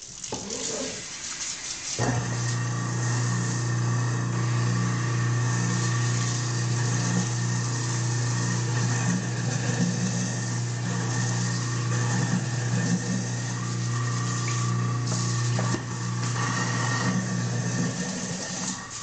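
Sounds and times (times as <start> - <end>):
garbage disposal grinding: 0.0 - 1.4, 2.0 - 19.0
water running into drain: 0.0 - 19.0.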